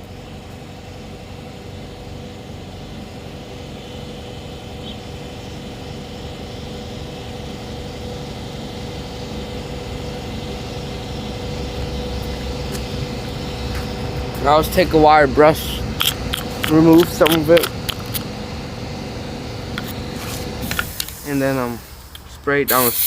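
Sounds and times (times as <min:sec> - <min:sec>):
machine drone: 0:00.0 - 0:22.4.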